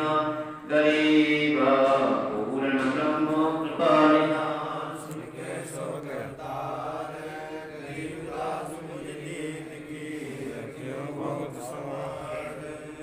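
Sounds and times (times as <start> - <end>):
men chanting scripture: 0.0 - 13.0.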